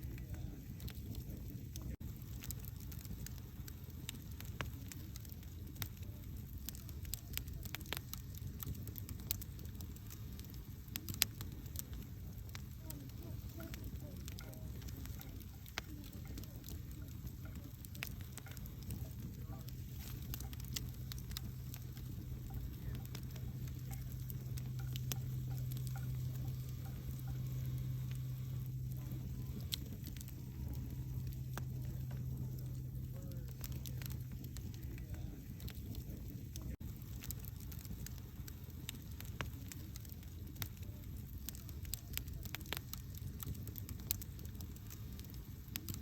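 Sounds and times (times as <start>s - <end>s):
low hum: 0.0s - 39.6s
campfire crackling: 0.0s - 46.0s.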